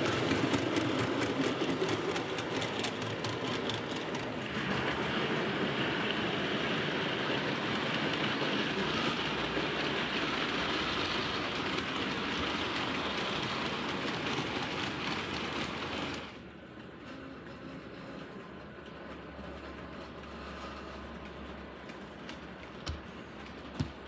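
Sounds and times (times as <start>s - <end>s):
model trains whirring and rattling: 0.0s - 24.0s.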